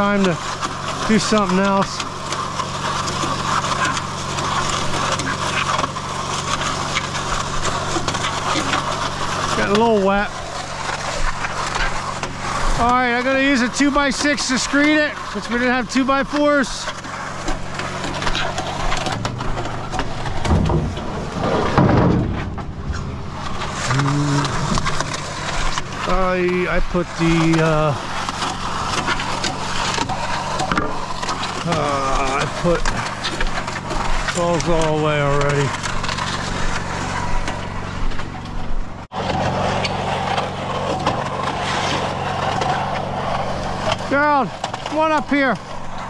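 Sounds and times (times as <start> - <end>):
small engine running: 0.0 - 22.0, 22.6 - 46.0
scraping and knocks: 0.6 - 38.6.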